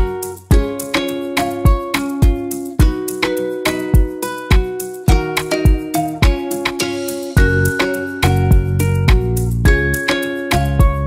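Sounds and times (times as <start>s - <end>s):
plucked string melody: 0.0s - 11.0s
steady beat: 0.0s - 11.0s.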